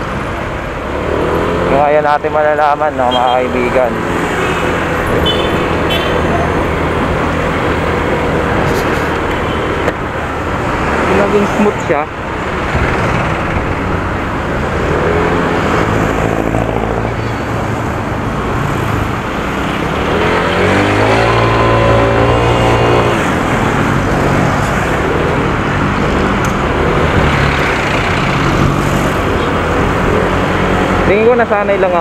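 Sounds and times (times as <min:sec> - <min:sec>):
road noise: 0:00.0 - 0:32.0
wind: 0:00.0 - 0:32.0.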